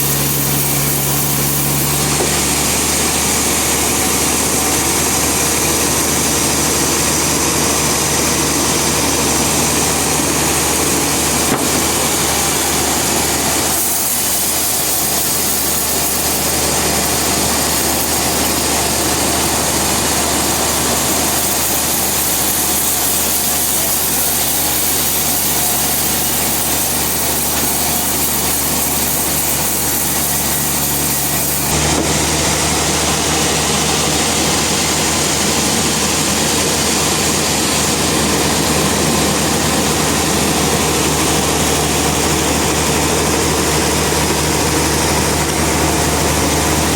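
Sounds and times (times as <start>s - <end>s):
sawmill blade sawing timber: 0.0s - 46.9s.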